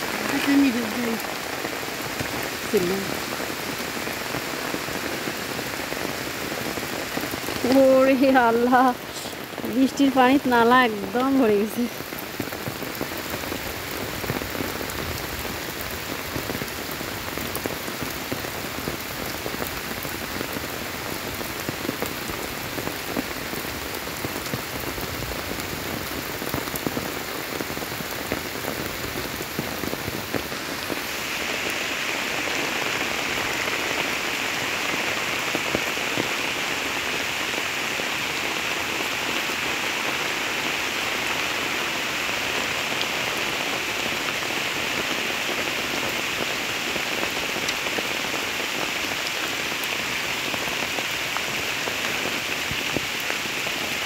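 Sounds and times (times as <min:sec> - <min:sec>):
heavy rain on standing water: 0:00.0 - 0:54.0.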